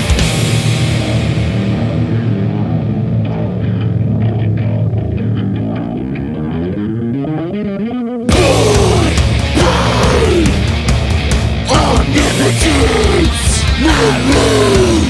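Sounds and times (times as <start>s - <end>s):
full metal band playing: 0.0s - 6.8s, 8.3s - 15.0s
death metal guitar: 0.0s - 15.0s.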